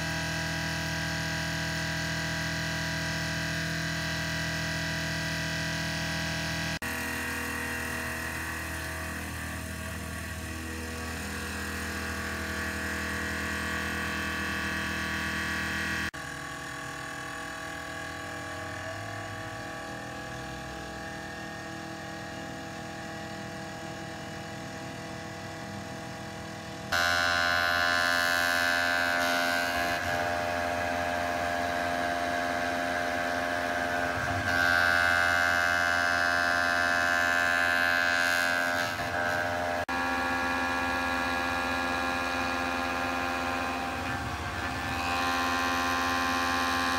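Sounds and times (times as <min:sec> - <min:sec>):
machine tool whining and humming: 0:00.0 - 0:46.9.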